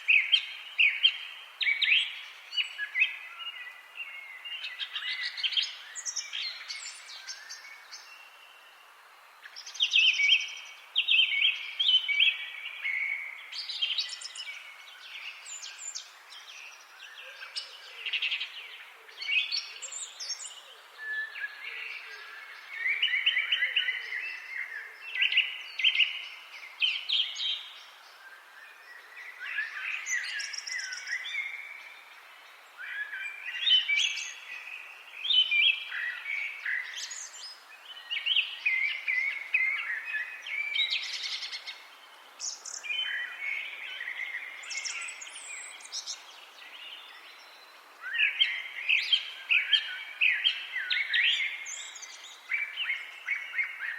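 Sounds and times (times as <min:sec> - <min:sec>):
faint background hiss: 0:00.0 - 0:53.9
songbirds singing: 0:00.0 - 0:53.9.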